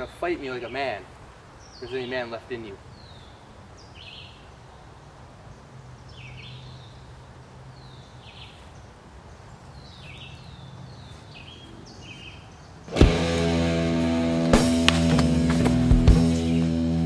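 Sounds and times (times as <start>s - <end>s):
bird chirping: 0.0s - 13.2s, 16.1s - 16.9s
low outdoor background: 0.0s - 17.0s.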